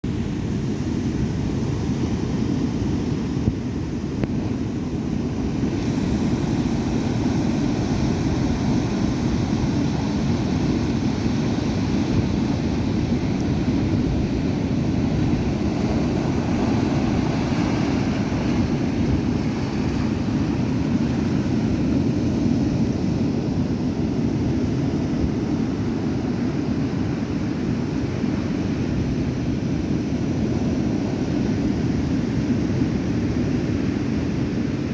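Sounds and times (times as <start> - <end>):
waves breaking: 0.1 - 34.8.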